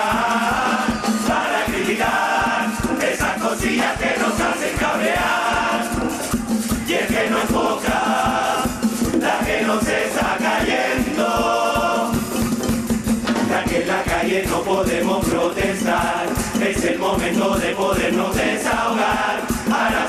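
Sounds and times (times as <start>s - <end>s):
men singing in chorus: 0.0s - 12.4s, 13.4s - 20.0s
fast drum beat: 0.0s - 20.0s.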